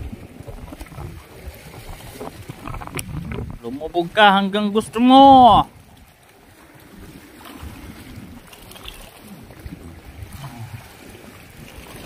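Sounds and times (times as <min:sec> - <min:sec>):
faint sea water wash: 0:00.0 - 0:12.0
wind rumbling on microphone: 0:00.0 - 0:12.0.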